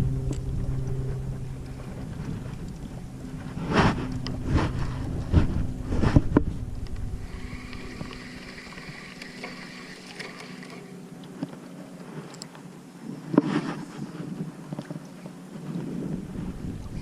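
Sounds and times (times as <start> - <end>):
wind buffeting microphone: 0.0 - 10.0, 11.2 - 17.0.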